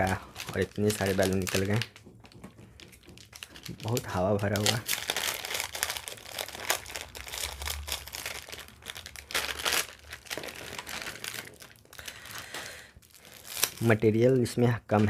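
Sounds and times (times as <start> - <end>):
foil packet crinkling: 0.0 - 15.0.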